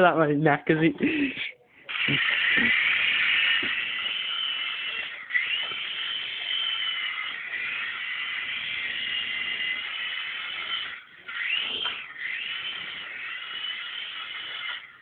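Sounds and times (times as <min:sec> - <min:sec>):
rc helicopter motor whine: 0:01.9 - 0:15.0.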